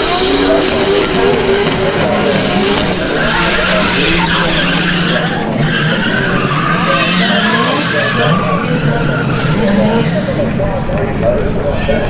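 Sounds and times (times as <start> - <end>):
car engines revving: 0.0 - 12.0
tyres skidding: 0.0 - 12.0.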